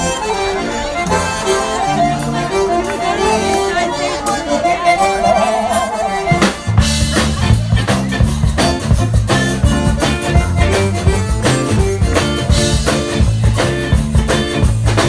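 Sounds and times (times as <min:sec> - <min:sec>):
bass: 0:00.0 - 0:15.0
drums: 0:00.0 - 0:15.0
melodic lead instrument: 0:00.0 - 0:15.0.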